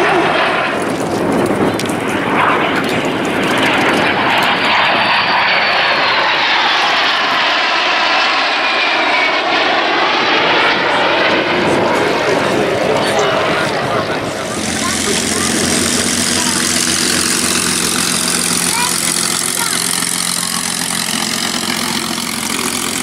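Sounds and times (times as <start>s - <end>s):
jet fighters roaring past: 0.0s - 23.0s.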